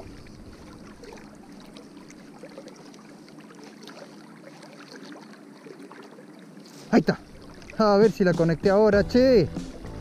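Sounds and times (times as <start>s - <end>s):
river water lapping: 0.0s - 10.0s.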